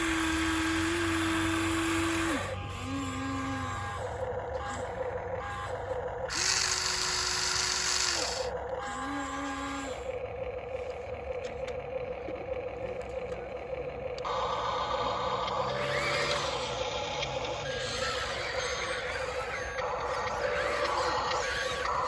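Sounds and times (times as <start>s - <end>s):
small electric motors whirring: 0.0s - 22.0s
steady whine: 0.0s - 22.0s.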